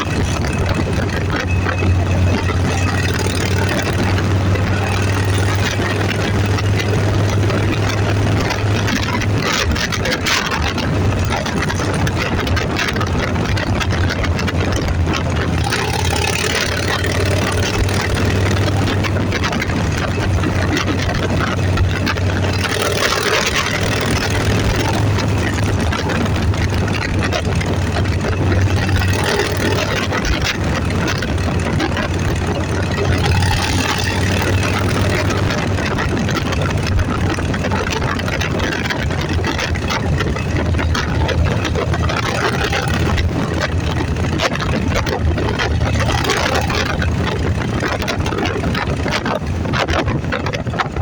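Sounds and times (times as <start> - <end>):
vehicle engine humming: 0.0 - 51.0
wind and road noise: 0.0 - 51.0.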